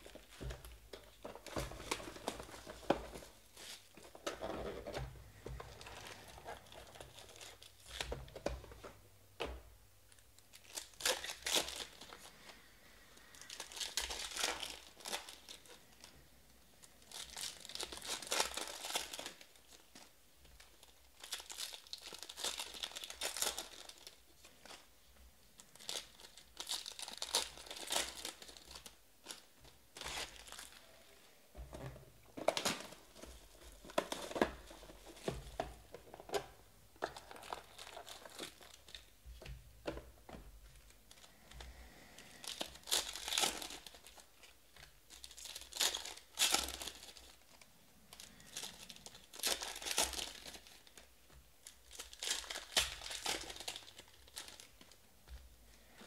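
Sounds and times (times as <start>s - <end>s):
card pack wrappers crinkling and tearing: 0.0s - 8.8s, 10.1s - 24.9s, 25.5s - 31.2s, 32.3s - 40.0s, 40.6s - 56.0s.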